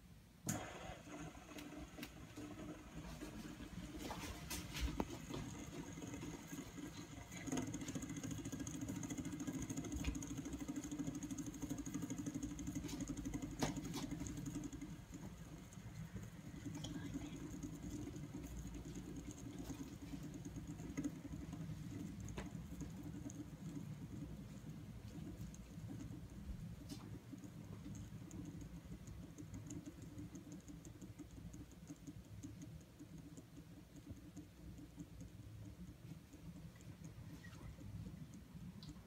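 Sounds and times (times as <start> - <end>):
fidget spinner whirring: 0.0 - 39.0
light clicks of spinner: 0.4 - 39.0.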